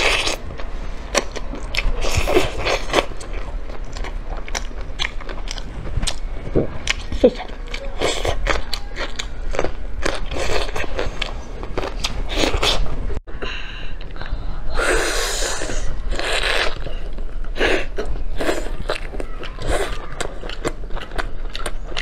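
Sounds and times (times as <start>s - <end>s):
biting and chewing: 0.0s - 12.9s, 16.1s - 22.0s.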